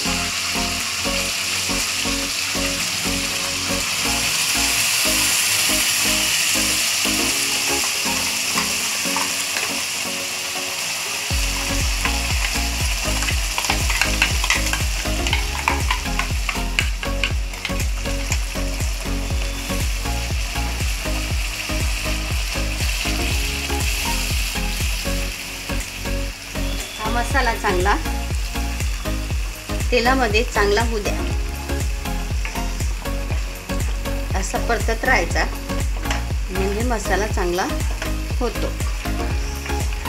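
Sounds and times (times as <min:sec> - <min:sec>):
paste sizzling in hot oil: 0:00.0 - 0:40.0.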